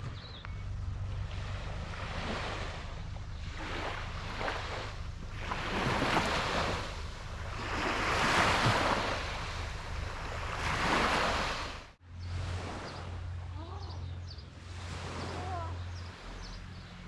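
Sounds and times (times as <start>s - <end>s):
waves washing in: 0.8s - 17.0s.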